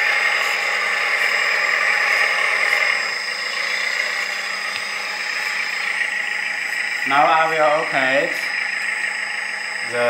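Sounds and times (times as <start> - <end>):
simulated diesel engine running: 0.0 - 10.0.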